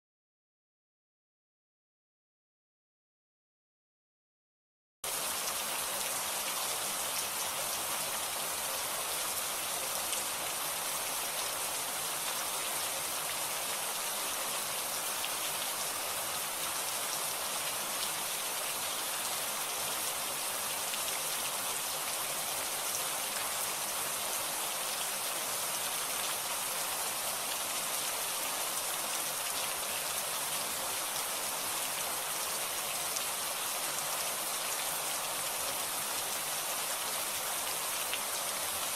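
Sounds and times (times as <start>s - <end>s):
heavy rainfall: 5.0s - 38.9s.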